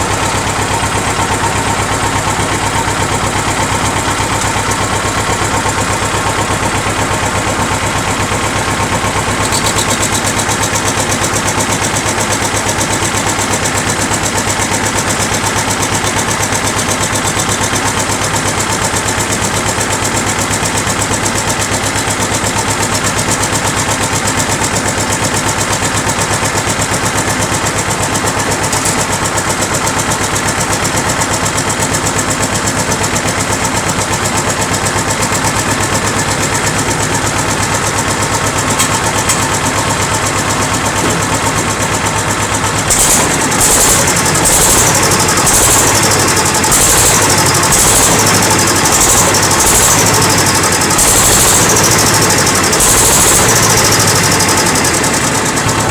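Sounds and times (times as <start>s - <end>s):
diesel tractor engine running: 0.0s - 55.9s.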